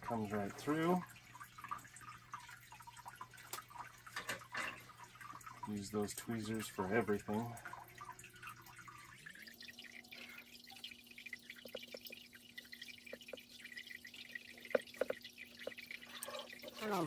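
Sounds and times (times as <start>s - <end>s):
low steady hum: 0.0s - 17.0s
water drips plinking: 0.0s - 17.0s.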